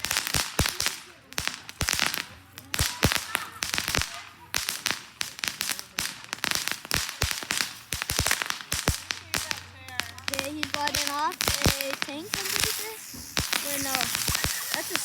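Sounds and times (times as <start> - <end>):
fireworks cracking and popping: 0.0 - 15.0
fireworks fizzing hiss: 0.0 - 15.0.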